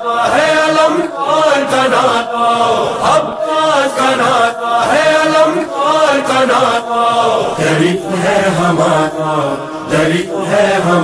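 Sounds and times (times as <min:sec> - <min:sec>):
man singing lament: 0:00.0 - 0:11.0.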